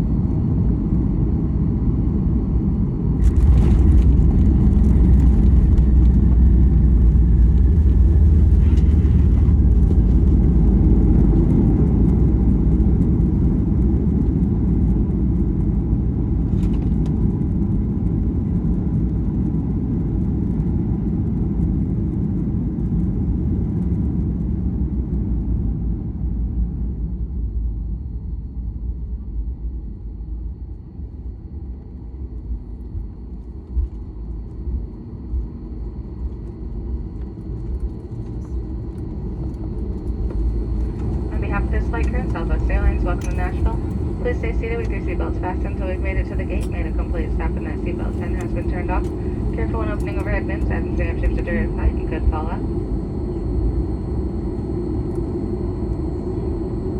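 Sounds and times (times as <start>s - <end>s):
airplane wheels and engines rumbling: 0.0s - 56.9s.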